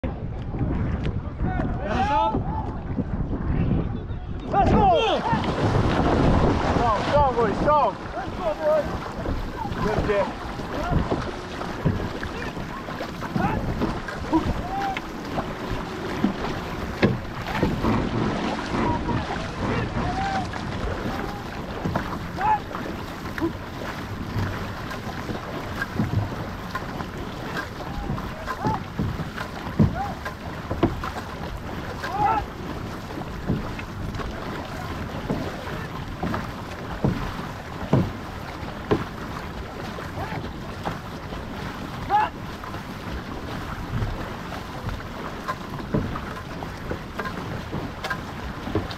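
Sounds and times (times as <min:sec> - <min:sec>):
paddles splashing water: 0:00.0 - 0:48.9
water rushing along canoe hull: 0:00.0 - 0:48.9
wind on microphone: 0:00.0 - 0:48.9.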